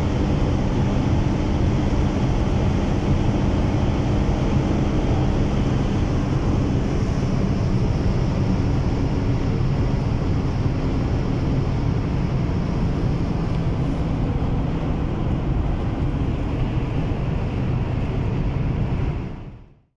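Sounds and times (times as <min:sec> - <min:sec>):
car engine running: 0:00.0 - 0:19.7
wind and road noise: 0:00.0 - 0:19.9.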